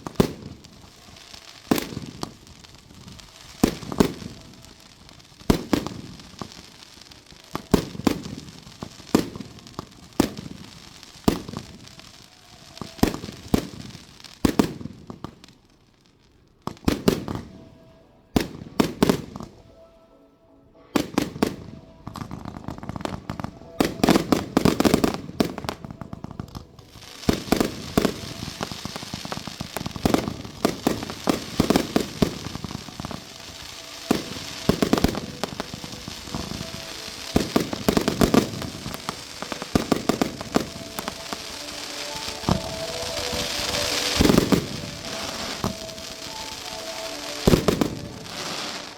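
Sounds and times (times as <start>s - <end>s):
fireworks bursting with bangs: 0.0s - 19.7s, 20.8s - 48.9s
fireworks crackle: 0.0s - 19.8s, 20.9s - 48.9s.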